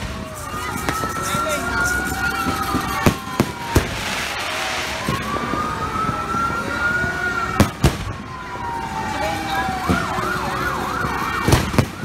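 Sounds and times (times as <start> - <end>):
fireworks bangs and crackling: 0.0 - 12.0
siren wailing: 0.0 - 12.0.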